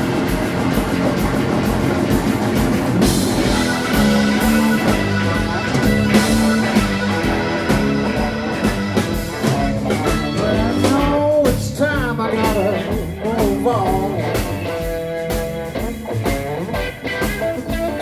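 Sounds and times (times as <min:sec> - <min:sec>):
bass: 0:00.0 - 0:18.0
drum beat: 0:00.0 - 0:18.0
lead guitar with bending notes: 0:00.0 - 0:18.0.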